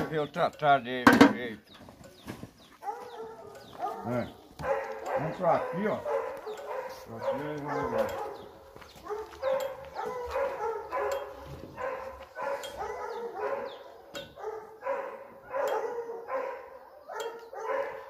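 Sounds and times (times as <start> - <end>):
dogs barking: 2.6 - 18.0.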